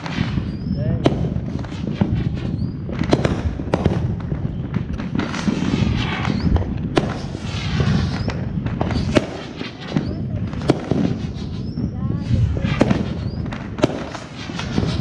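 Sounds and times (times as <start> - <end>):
fireworks bangs: 0.0 - 15.0
fireworks rumble and crackling: 0.0 - 15.0.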